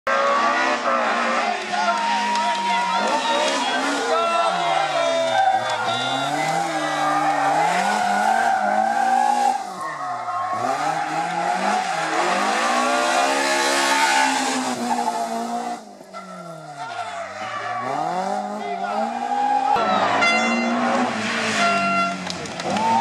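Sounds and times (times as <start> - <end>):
car engine revving hard: 0.1 - 9.8, 10.5 - 15.9, 17.7 - 21.6.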